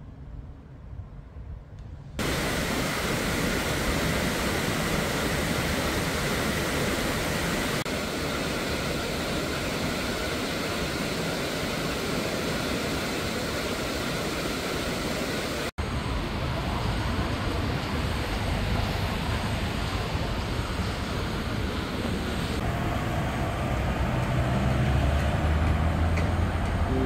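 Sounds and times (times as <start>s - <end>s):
heavy rain on trees and grass: 2.2s - 26.3s.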